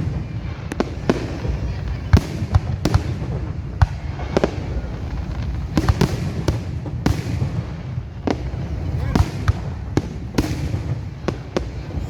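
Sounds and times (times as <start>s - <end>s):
distant explosions rumbling: 0.0s - 12.0s
fireworks bangs and cracks: 0.0s - 12.0s.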